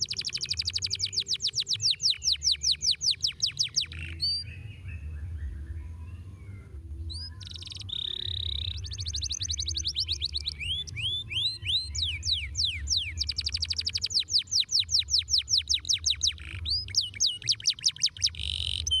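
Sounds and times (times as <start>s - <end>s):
canary singing: 0.0s - 19.0s.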